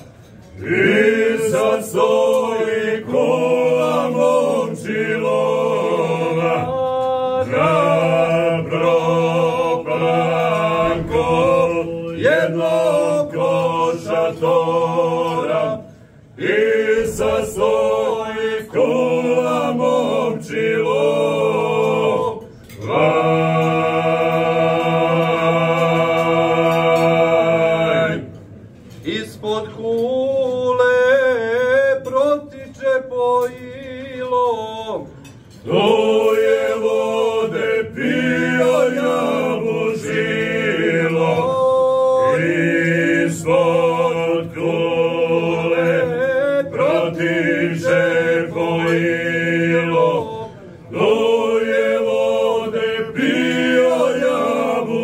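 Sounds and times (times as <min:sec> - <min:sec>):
male vocal group singing: 0:00.0 - 0:55.0.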